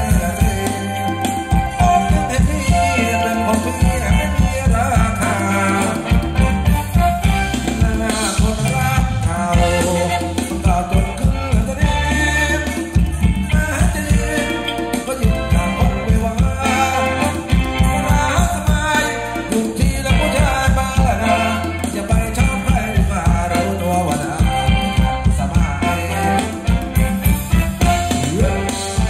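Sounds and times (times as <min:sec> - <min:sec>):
live band dance music: 0:00.0 - 0:29.0.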